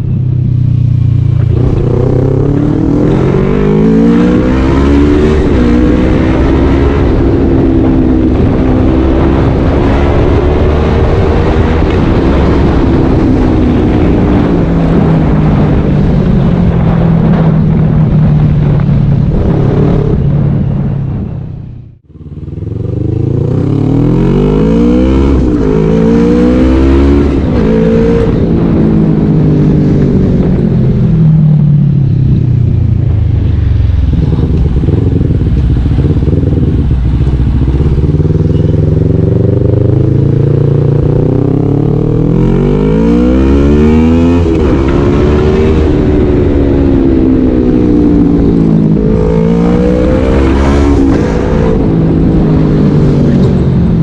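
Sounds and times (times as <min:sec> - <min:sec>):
motorcycle engine revving: 0:00.0 - 0:21.2, 0:21.8 - 0:54.0.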